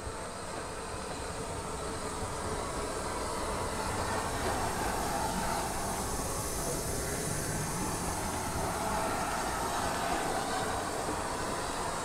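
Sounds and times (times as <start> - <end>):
steam train rumble and hiss: 0.0 - 12.0.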